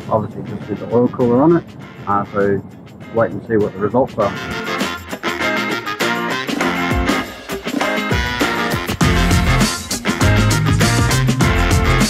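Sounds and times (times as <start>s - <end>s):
guitar-led music with bass: 0.0s - 12.0s.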